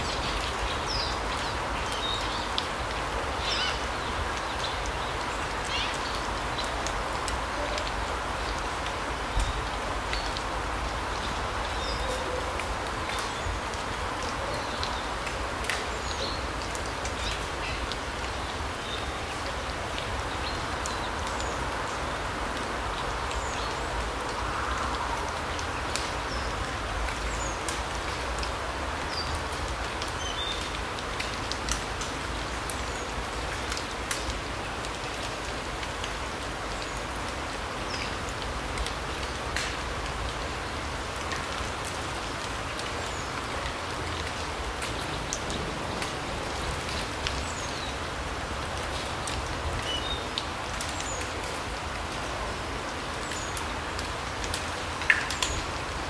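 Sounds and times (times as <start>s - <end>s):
steady forest hiss: 0.0s - 56.0s.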